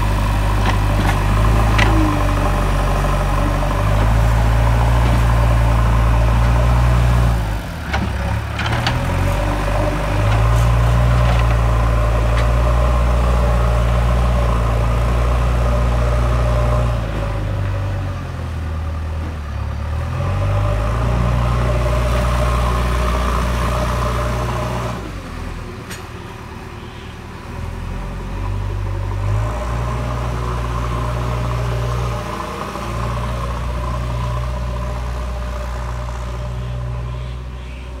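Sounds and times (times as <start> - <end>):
diesel engine under load: 0.0 - 38.0.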